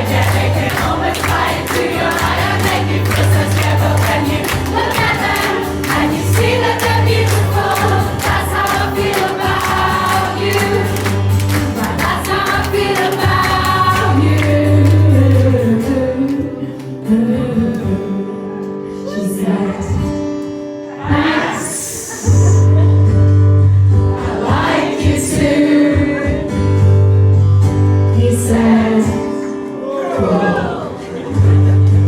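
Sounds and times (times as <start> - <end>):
bass guitar: 0.0 - 18.2, 22.2 - 29.0, 31.4 - 32.0
live band with singing: 0.0 - 22.9, 23.8 - 27.0, 27.7 - 32.0.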